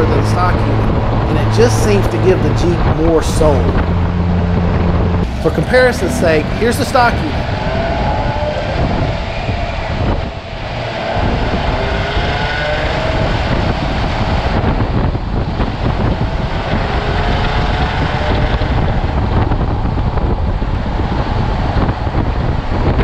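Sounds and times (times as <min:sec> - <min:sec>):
faint car engine hum: 0:00.0 - 0:23.0
wind buffeting microphone: 0:00.0 - 0:23.0.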